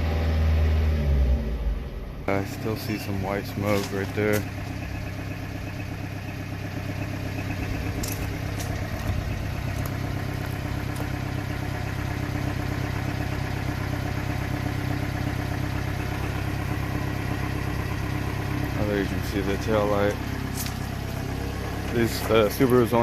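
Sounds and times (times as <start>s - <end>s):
truck engine idling: 0.0s - 23.0s
light engine ticks: 3.6s - 23.0s.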